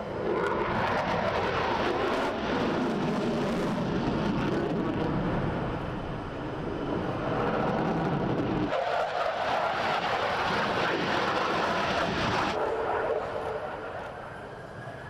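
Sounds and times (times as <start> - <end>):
jet fighters roaring: 0.0 - 15.0.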